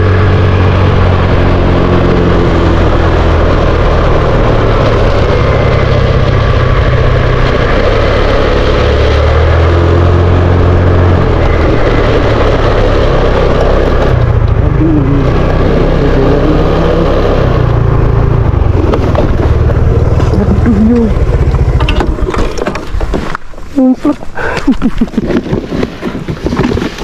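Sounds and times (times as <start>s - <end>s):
motor scooter engine: 0.0s - 24.0s
wind rush on microphone: 0.0s - 27.0s.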